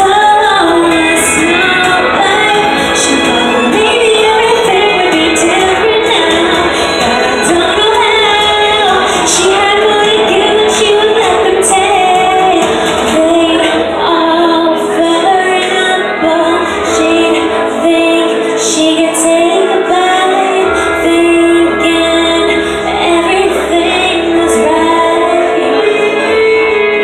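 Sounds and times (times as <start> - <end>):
instrumental accompaniment: 0.0 - 27.0
woman singing into microphone: 0.0 - 27.0.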